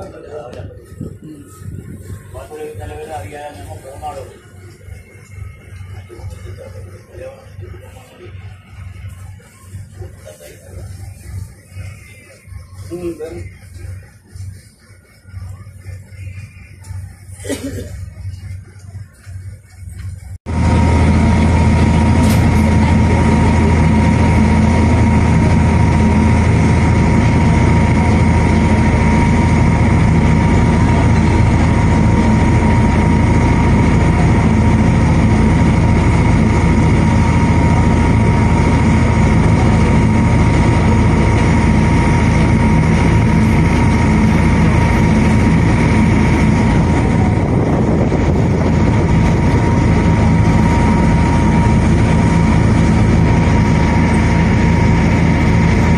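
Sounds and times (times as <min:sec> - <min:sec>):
ferry engine droning: 0:00.0 - 0:55.9.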